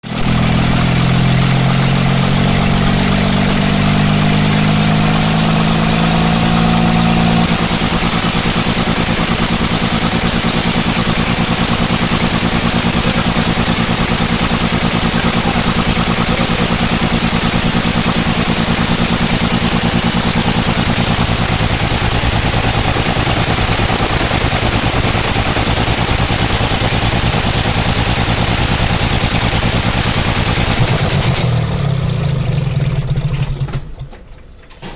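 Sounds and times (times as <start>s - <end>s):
engine idling with misfire: 0.0s - 34.9s.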